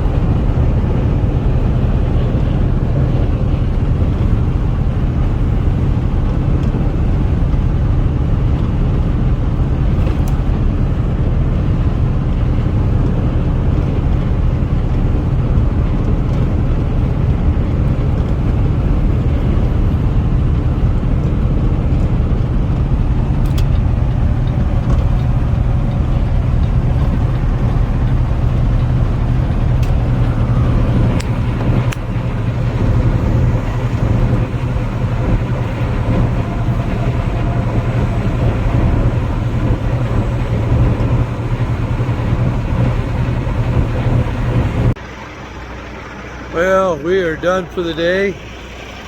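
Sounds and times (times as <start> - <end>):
truck engine and road rumble: 0.0 - 49.0.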